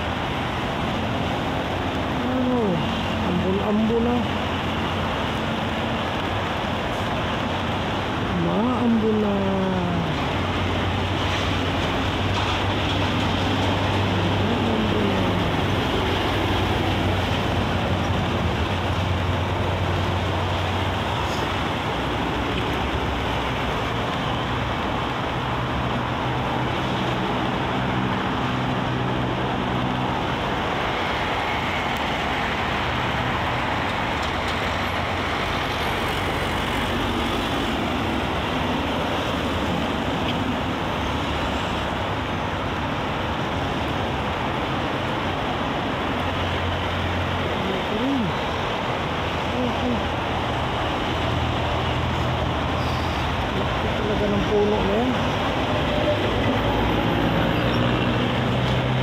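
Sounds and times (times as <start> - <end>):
expressway traffic: 0.0 - 59.0
heavy vehicle engines humming: 0.0 - 59.0.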